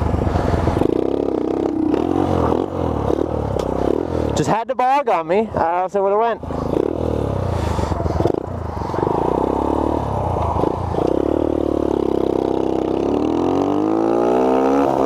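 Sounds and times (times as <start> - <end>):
motorcycle engine revving: 0.0 - 4.4, 6.4 - 15.0.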